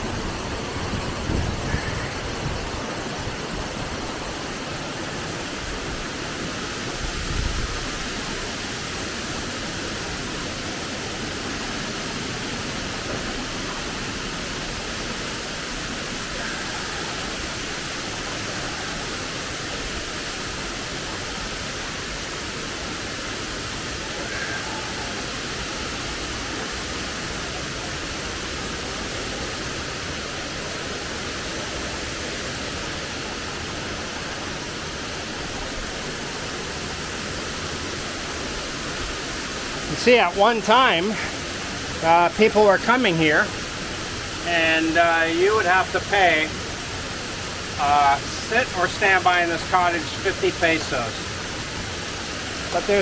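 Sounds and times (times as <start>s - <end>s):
waterfall roaring: 0.0s - 53.0s.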